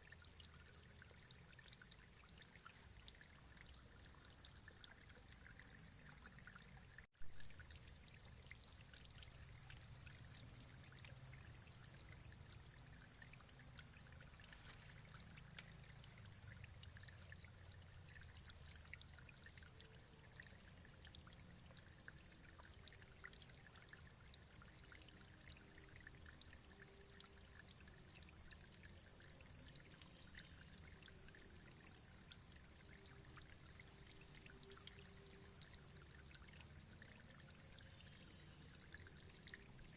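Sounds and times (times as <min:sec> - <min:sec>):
faint running water: 0:00.0 - 0:39.9.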